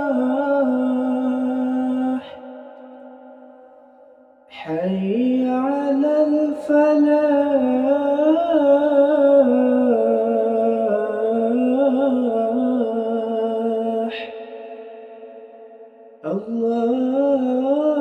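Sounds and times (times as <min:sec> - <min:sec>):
man singing call to prayer: 0:00.0 - 0:02.8, 0:04.5 - 0:14.8, 0:16.2 - 0:18.0.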